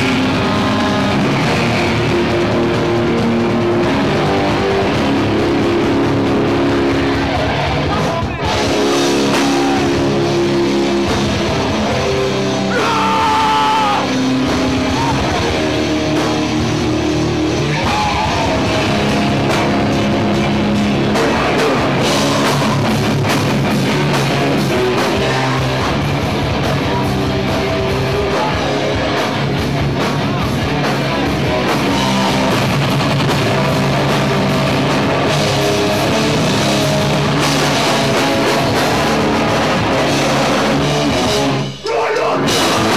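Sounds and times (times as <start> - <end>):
bass guitar: 0.0 - 42.9
distorted electric guitars: 0.0 - 42.9
drums: 0.0 - 42.9.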